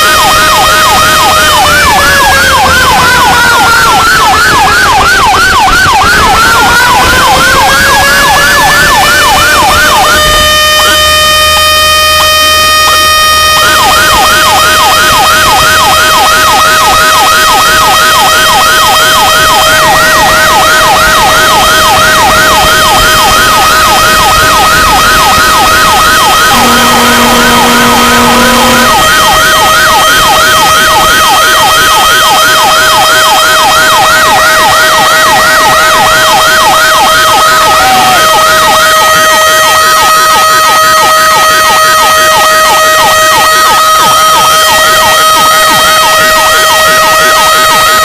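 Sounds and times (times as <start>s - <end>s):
lower horn: 0.0s - 31.0s, 33.8s - 48.0s
fire truck siren yelping: 0.0s - 48.0s.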